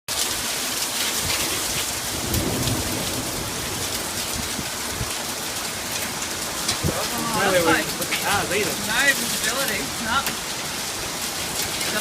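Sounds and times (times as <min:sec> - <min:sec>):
hail and heavy rain pelting: 0:00.1 - 0:12.0.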